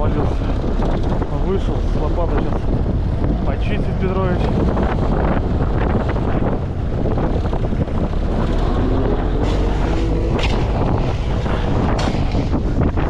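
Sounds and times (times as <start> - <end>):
tractor engine running: 0.0 - 13.0
wind buffeting microphone: 0.0 - 13.0.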